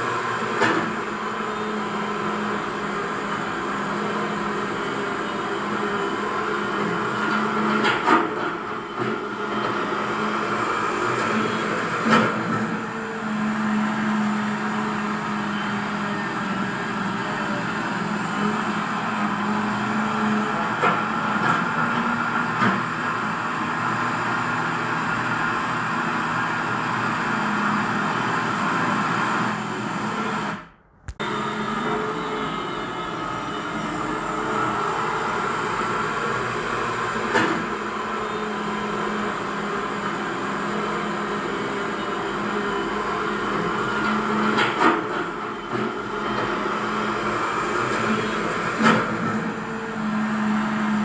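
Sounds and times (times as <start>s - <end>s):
electric motors whining: 0.0s - 51.0s.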